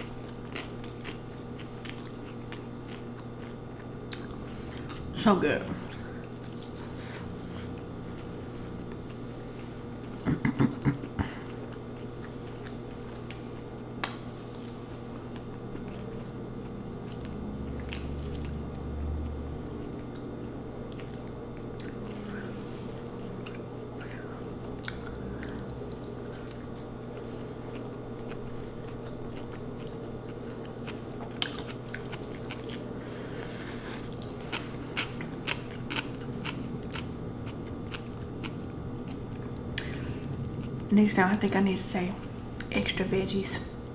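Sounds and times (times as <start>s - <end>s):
chewing crunchy noodles: 0.0s - 5.2s, 5.8s - 41.0s
steady low hum: 0.0s - 43.9s.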